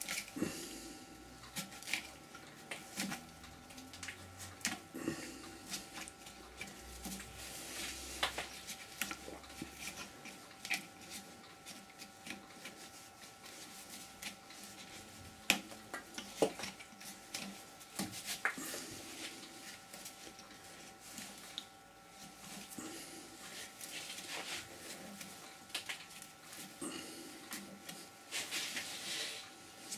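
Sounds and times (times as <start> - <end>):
faint motor hum: 0.0 - 29.9.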